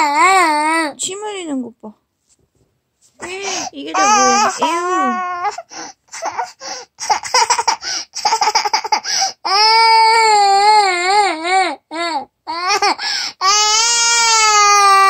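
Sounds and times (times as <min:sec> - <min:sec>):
toddler crying: 0:00.0 - 0:00.8, 0:03.4 - 0:15.0.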